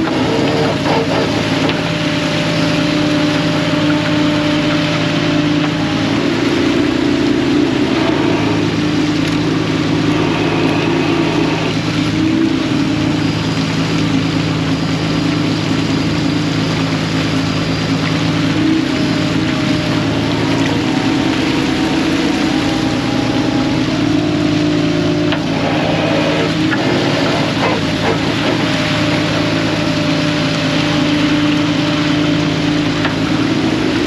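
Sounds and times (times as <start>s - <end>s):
boat engine running: 0.0s - 34.0s
water wash: 0.0s - 34.0s.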